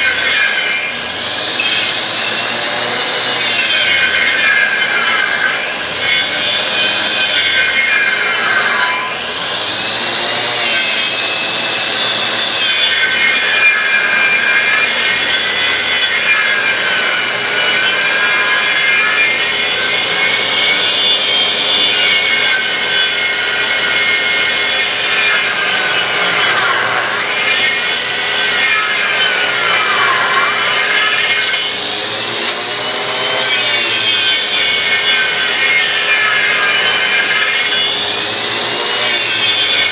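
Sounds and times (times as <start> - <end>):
lathe cutter machining wood: 0.0 - 39.9.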